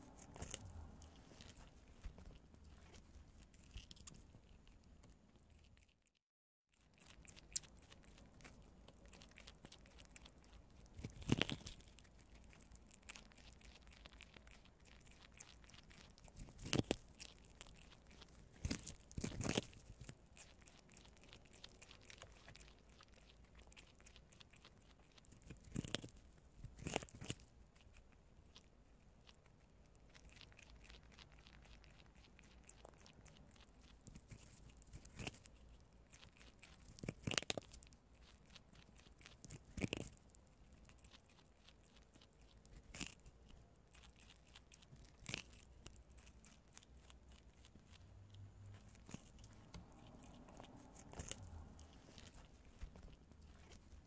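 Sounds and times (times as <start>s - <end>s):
small animals crunching corn: 0.0s - 54.0s.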